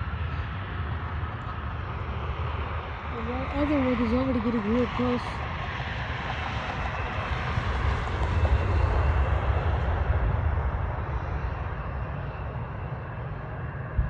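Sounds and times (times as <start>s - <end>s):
distant jet engines roaring: 0.0s - 14.0s.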